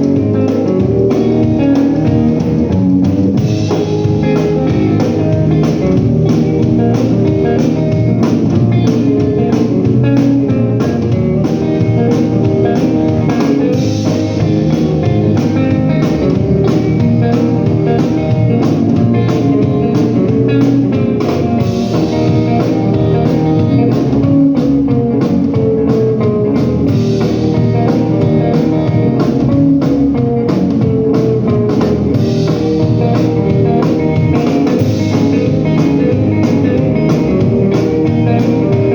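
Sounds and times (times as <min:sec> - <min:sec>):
blues band playing: 0:00.0 - 0:38.9.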